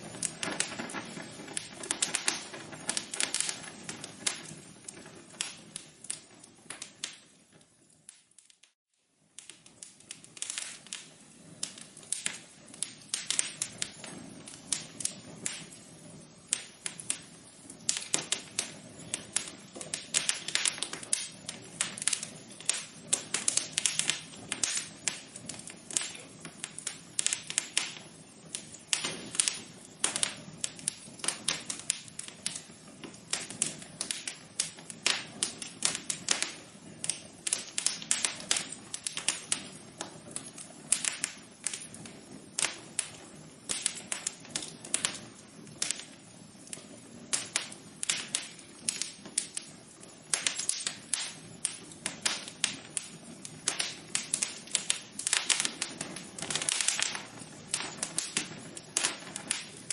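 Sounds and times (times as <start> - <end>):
sharp pops and snaps: 0.0 - 59.9
soft hiss: 0.0 - 59.9
wood fire crackling: 0.0 - 59.9.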